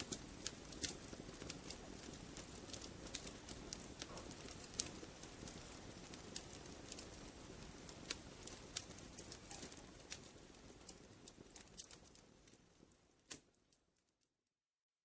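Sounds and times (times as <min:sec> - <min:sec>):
low rush of flames: 0:00.0 - 0:13.6
wood fire crackling: 0:00.0 - 0:14.3.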